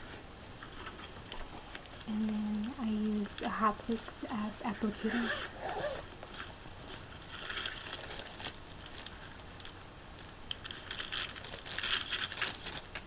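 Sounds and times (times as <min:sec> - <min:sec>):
rustling and handling noise: 0:00.0 - 0:13.0.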